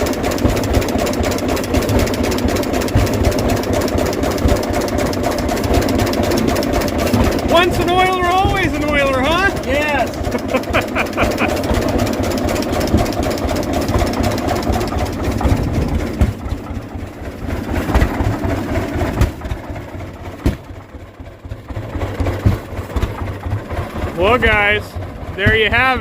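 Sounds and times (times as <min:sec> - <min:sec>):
sharp engine knock: 0:00.0 - 0:26.0
tractor engine chugging at idle: 0:00.0 - 0:26.0.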